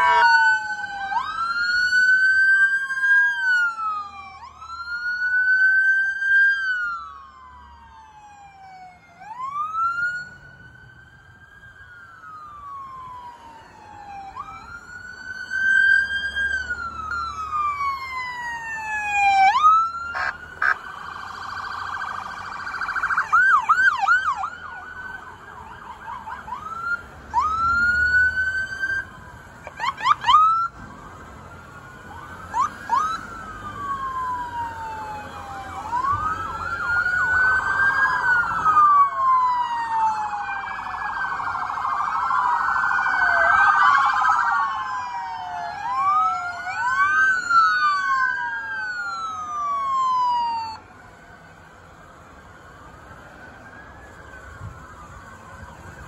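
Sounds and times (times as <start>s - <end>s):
police sirens wailing and yelping: 0.0s - 56.0s.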